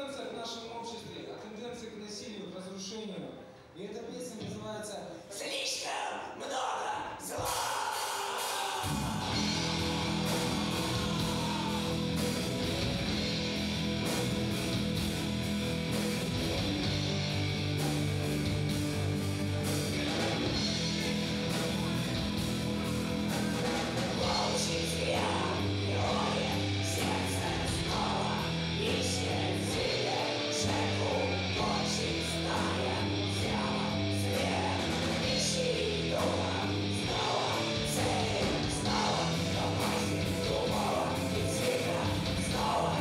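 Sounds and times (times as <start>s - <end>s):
heavy metal band playing: 7.4s - 43.0s.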